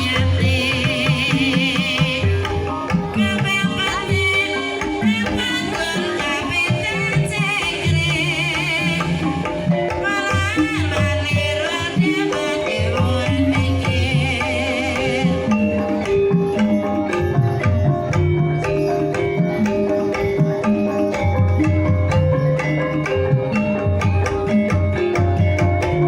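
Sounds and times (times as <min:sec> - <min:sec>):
hand drums: 0:00.0 - 0:26.0
wavering high melody: 0:00.0 - 0:26.0.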